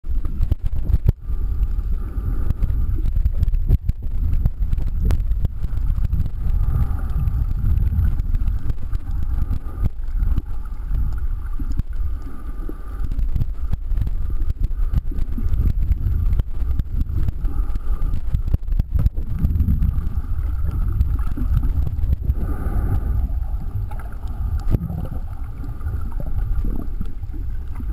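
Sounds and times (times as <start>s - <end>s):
muffled underwater rumble: 0.0s - 27.9s
faint clicks: 0.1s - 27.9s.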